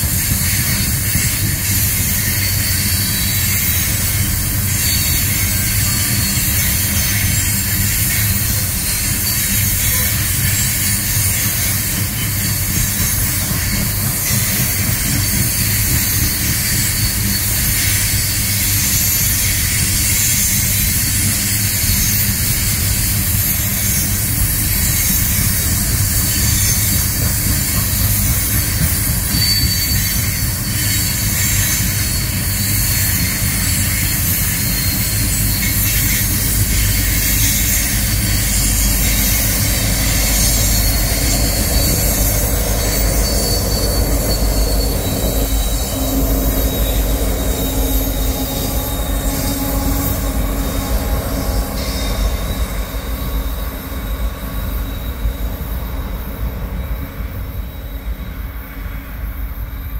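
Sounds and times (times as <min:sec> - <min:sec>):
high wheel squeal: 0:00.0 - 0:59.9
train wheels rumbling and rattling: 0:00.0 - 0:59.9.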